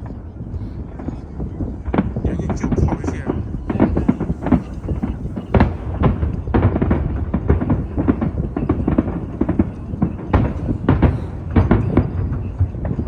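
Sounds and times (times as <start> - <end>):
fireworks bangs and crackles: 0.0 - 13.0
deep firework booms: 0.8 - 13.0.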